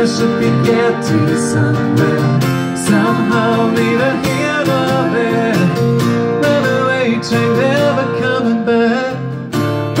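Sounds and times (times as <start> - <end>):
person singing: 0.0 - 9.4
acoustic guitar strumming: 0.0 - 10.0.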